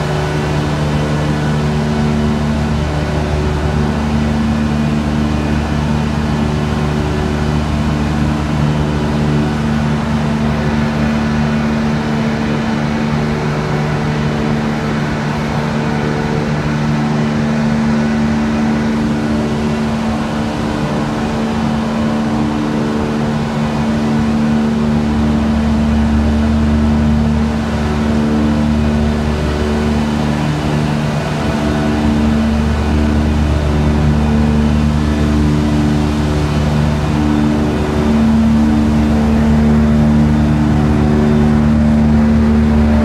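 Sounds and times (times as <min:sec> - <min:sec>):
mill machinery humming: 0:00.0 - 0:43.0.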